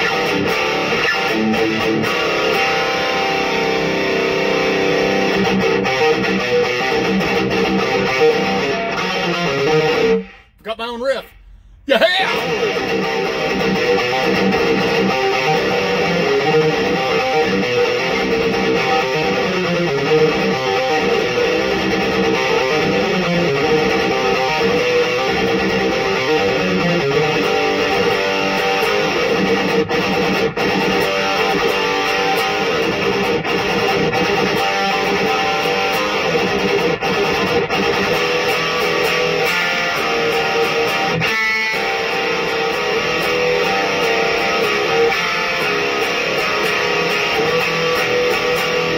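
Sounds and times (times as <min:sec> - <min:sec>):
distorted electric guitar metal riff: 0:00.0 - 0:48.9.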